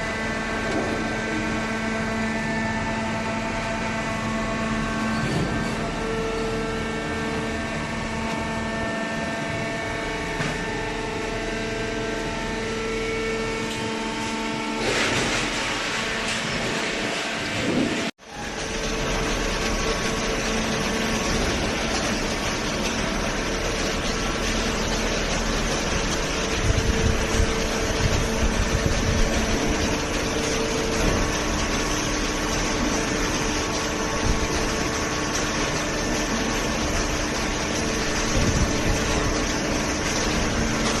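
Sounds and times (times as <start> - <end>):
hydraulic motor and pump humming: 0.0 - 41.0.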